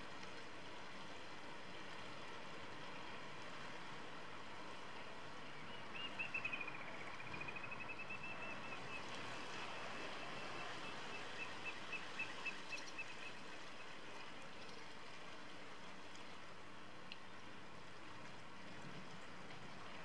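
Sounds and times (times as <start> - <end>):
water washing along shoreline: 0.0 - 20.0.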